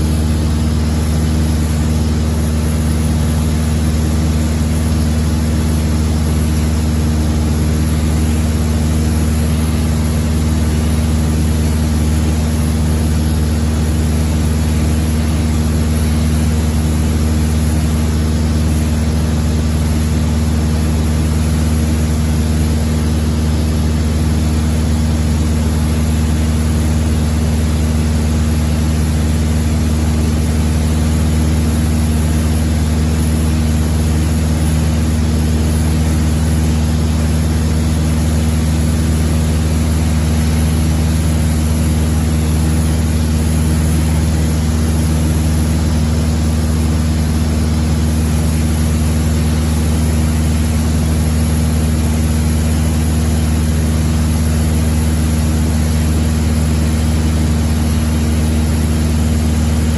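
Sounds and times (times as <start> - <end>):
propeller aircraft engine hum: 0.0 - 59.9.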